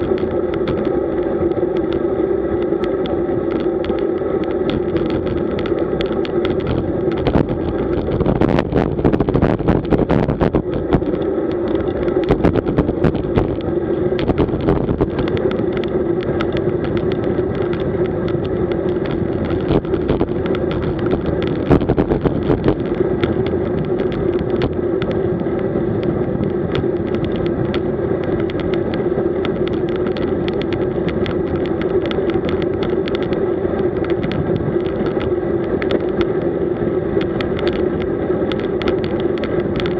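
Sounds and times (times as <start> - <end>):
crackles and knocks: 0.0 - 39.9
wind and road noise: 0.0 - 39.9.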